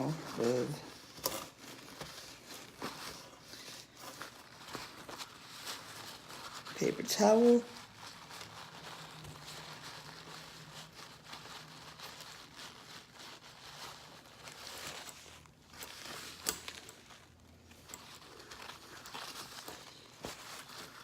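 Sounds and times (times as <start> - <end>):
paper towel crinkling on metal: 0.0 - 21.0.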